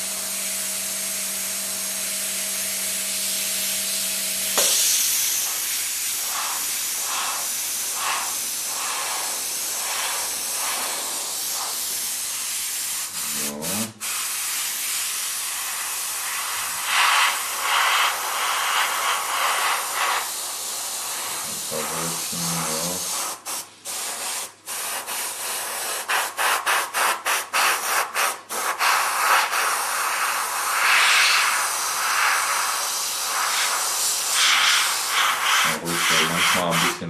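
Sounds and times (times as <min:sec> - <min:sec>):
airbrush spraying hiss: 0:00.0 - 0:37.0.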